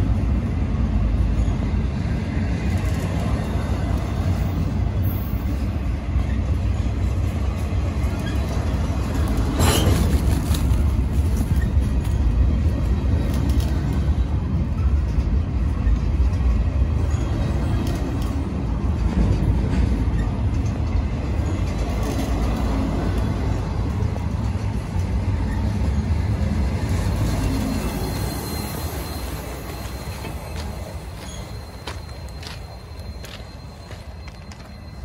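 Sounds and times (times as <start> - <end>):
train clicks and clanks: 0.0 - 35.0
train wheels rumbling on rails: 0.0 - 35.0.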